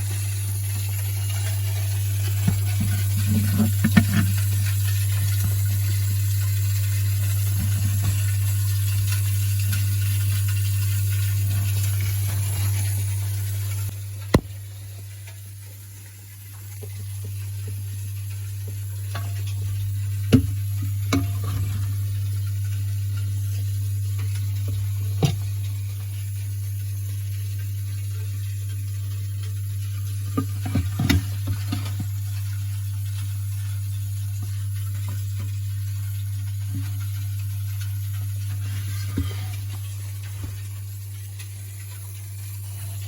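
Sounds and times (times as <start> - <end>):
low hum with faint hiss: 0.0 - 43.0.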